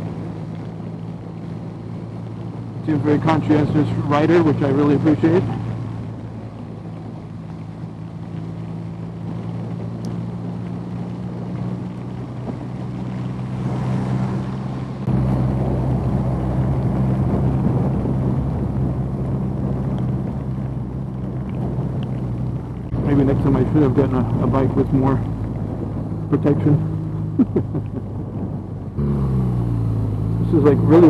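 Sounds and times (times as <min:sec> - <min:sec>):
motorcycle engine running: 0:00.0 - 0:31.0
wind noise on microphone: 0:00.0 - 0:31.0.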